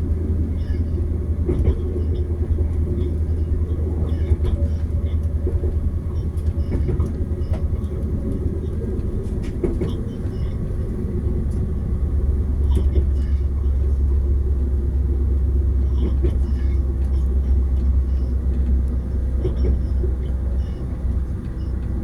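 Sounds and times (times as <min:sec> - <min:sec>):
passenger train rumbling: 0:00.0 - 0:22.0.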